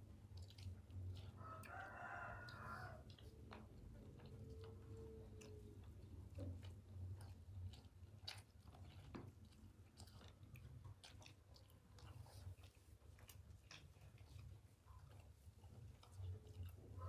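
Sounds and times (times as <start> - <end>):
low steady hum: 0.0 - 17.0
people chewing: 0.0 - 17.0.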